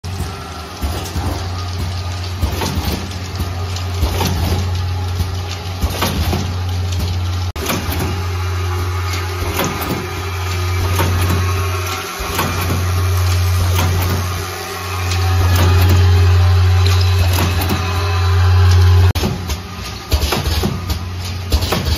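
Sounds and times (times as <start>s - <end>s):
machine low hum: 0.0s - 21.9s.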